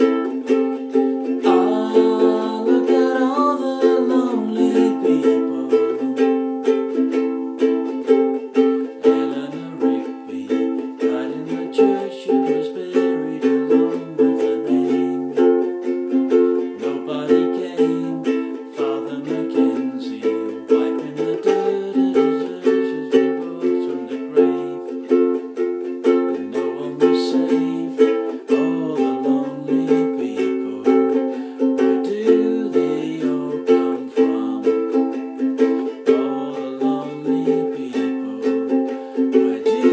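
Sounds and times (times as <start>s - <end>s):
acoustic strings strumming chords: 0.0s - 39.9s.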